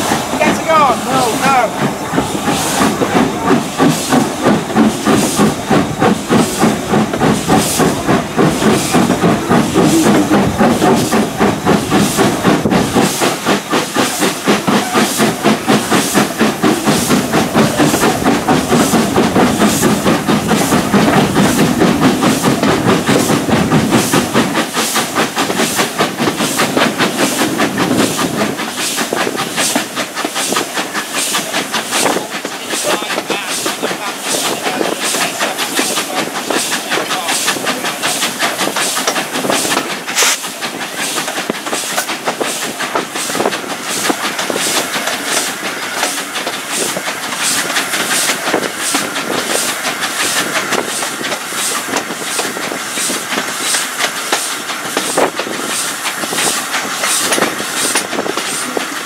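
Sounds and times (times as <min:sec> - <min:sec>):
carriage wheels rumbling on rails: 0:00.0 - 0:59.0
steam hissing: 0:00.0 - 0:59.0
steam locomotive exhaust beats: 0:00.0 - 0:59.0.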